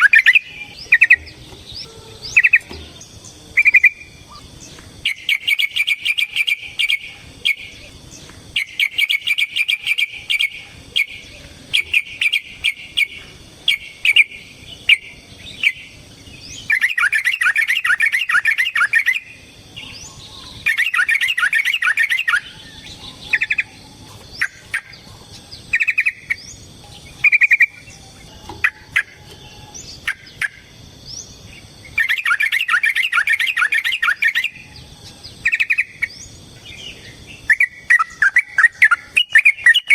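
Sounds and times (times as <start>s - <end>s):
bird rapid chattering song: 0.0s - 39.9s.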